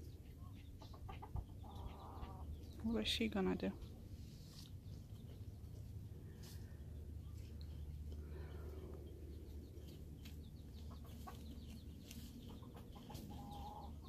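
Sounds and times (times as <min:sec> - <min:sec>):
hens clucking: 0:00.0 - 0:14.0
low steady rumble: 0:01.4 - 0:14.0.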